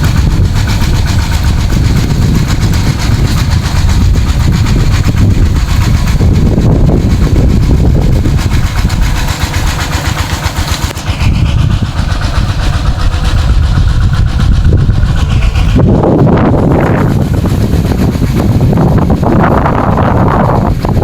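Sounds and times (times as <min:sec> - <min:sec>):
water pump engine running: 0:00.0 - 0:21.0
wind buffeting microphone: 0:00.0 - 0:21.0.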